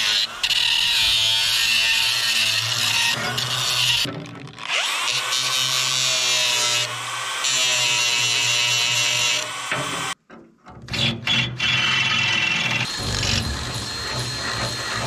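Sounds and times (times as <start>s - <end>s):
angle grinder on steel: 0.0s - 10.2s, 11.0s - 15.0s.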